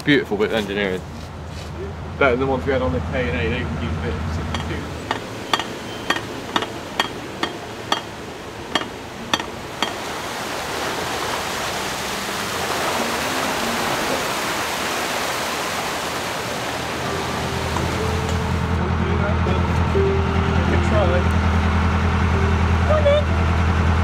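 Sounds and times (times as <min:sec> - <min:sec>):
water rushing into lock: 0:03.5 - 0:23.8.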